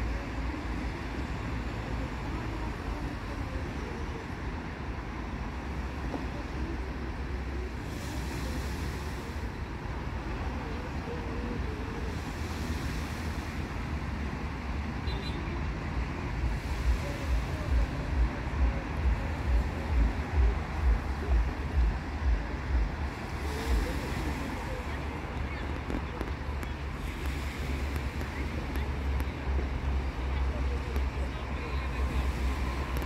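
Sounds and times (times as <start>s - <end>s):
wind rumble on microphone: 0.0s - 33.0s.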